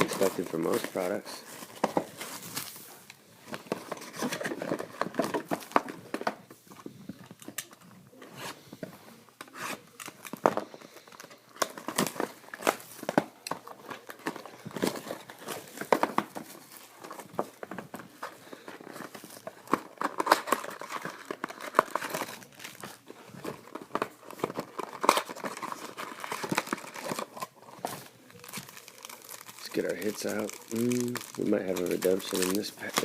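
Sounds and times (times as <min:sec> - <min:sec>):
card wrappers tearing and crinkling: 0:00.0 - 0:06.4, 0:09.4 - 0:33.0.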